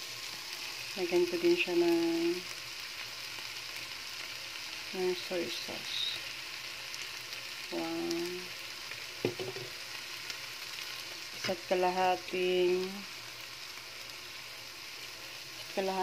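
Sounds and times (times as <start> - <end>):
vegetables sizzling in a frying pan: 0.0 - 16.0.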